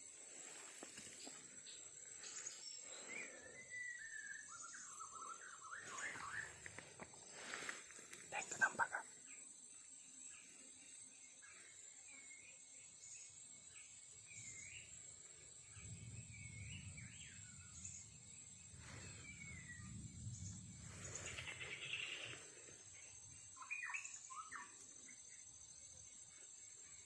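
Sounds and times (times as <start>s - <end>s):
wild birds chirping: 0.0s - 27.0s.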